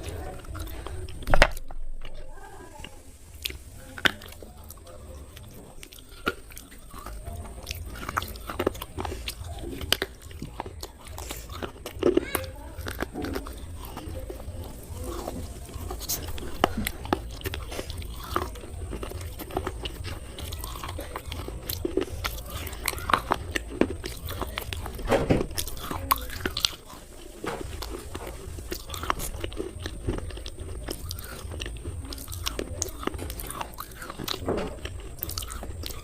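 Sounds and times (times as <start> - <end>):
crunchy chewing: 0.0 - 36.0.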